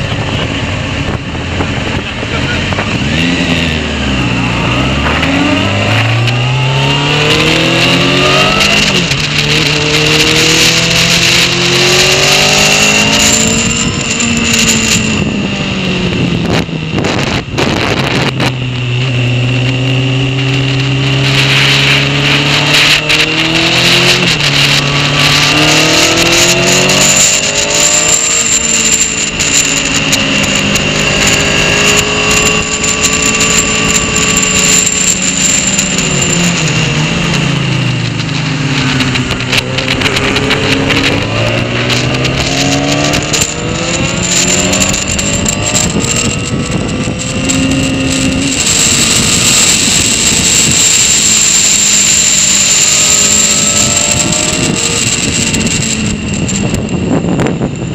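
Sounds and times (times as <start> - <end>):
motorcycle engine accelerating: 0.0 - 57.9
wind rush: 0.0 - 57.9.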